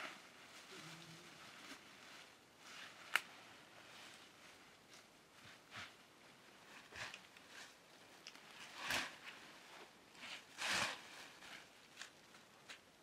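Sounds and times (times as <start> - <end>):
leafy branches rustling and crackling: 0.0 - 13.0.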